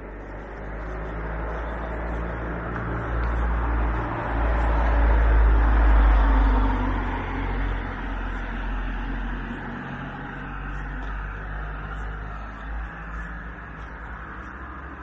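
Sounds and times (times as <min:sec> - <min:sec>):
car driving past: 0:00.0 - 0:15.0.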